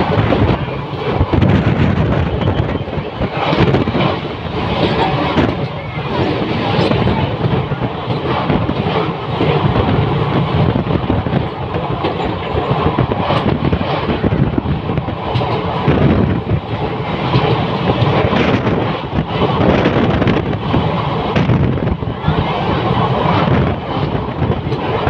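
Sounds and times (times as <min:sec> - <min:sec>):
train rumbling over bridge: 0:00.0 - 0:25.0
wheels clattering on rails: 0:00.0 - 0:25.0.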